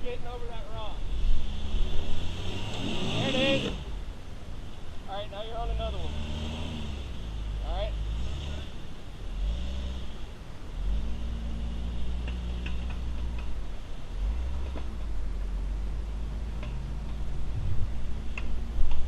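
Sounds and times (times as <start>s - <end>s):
engine running at low revs: 1.0s - 19.0s.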